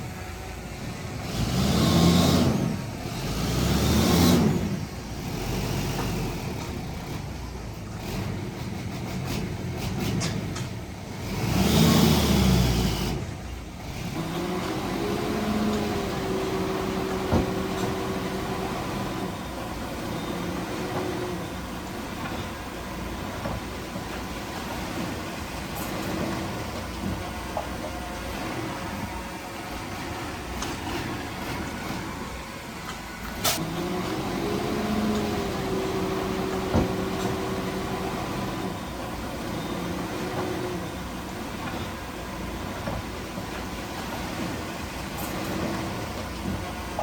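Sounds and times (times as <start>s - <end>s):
engine whine: 0.0s - 47.0s
heavy diesel machinery engine: 0.0s - 47.0s.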